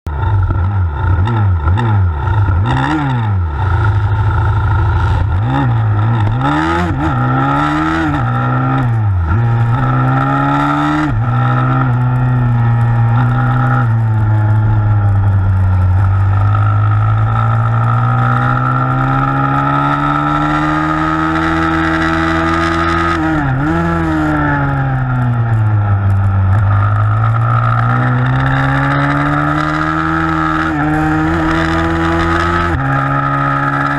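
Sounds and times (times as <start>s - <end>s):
motorbike engine revving: 0.1s - 33.9s.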